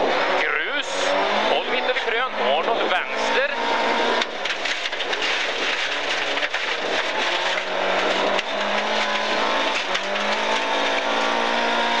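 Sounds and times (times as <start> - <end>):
rally car engine from inside: 0.0 - 12.0
road and tyre noise: 0.0 - 12.0.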